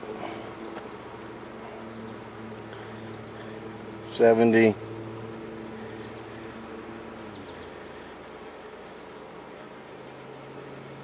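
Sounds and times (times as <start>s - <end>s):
distant lawn mower droning: 0.0s - 11.0s
faint outdoor hiss: 0.0s - 11.0s.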